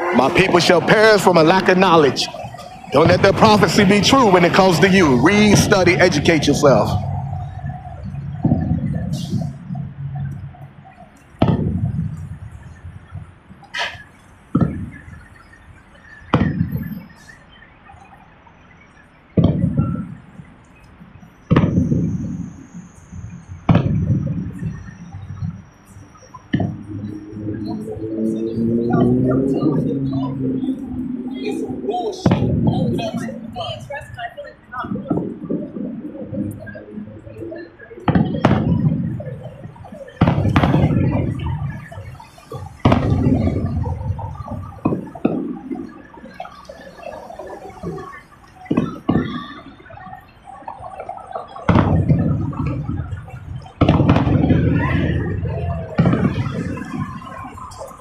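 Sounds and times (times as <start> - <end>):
rumbling echo: 0.0 - 17.4, 19.3 - 58.0
fireworks booming: 0.0 - 18.3, 19.3 - 58.0.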